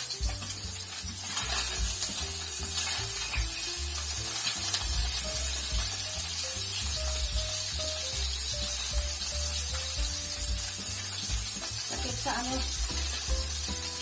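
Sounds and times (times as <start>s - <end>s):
background music with bass line: 0.0s - 14.0s
oil sizzling in a pan: 0.0s - 14.0s.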